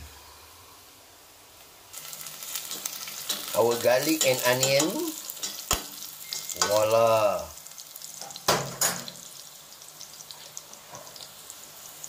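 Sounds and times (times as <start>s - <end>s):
onion and garlic sizzling in oil: 1.3s - 12.0s.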